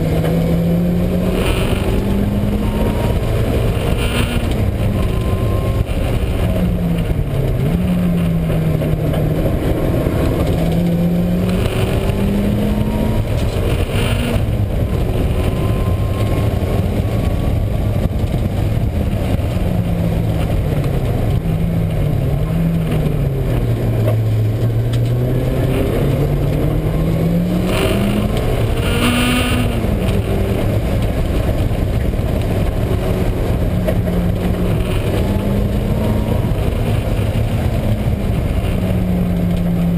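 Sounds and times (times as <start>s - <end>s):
car engine revving: 0.0s - 39.9s
loud road noise: 0.0s - 39.9s
wheel bearing drone: 0.0s - 39.9s.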